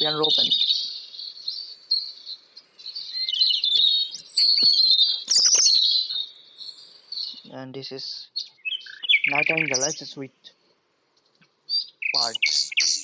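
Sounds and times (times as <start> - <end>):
robin singing: 0.0 - 13.0.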